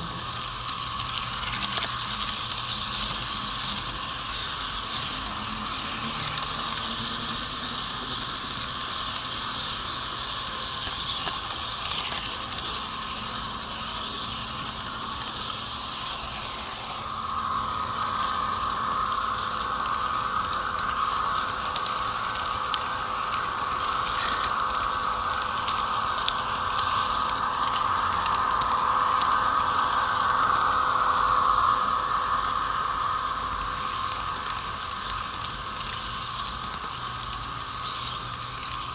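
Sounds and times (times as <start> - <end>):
mid-pitched hum: 0.0 - 38.9
model train wheels rattling: 0.0 - 38.9.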